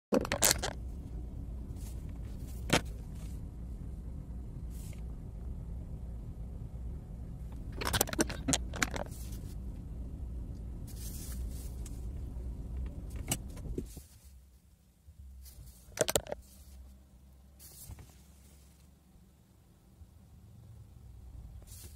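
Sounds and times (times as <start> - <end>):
car engine rumbling: 0.1 - 21.9.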